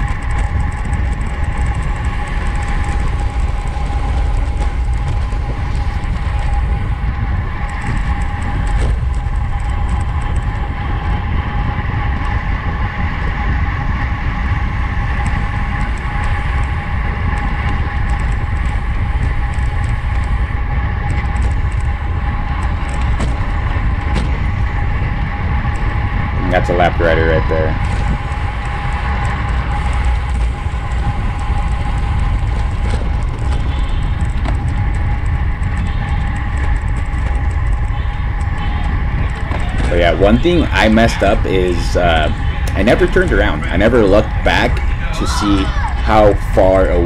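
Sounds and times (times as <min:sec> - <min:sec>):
bicycle drivetrain whine: 0:00.0 - 0:47.0
wind rushing over microphone: 0:00.0 - 0:47.0.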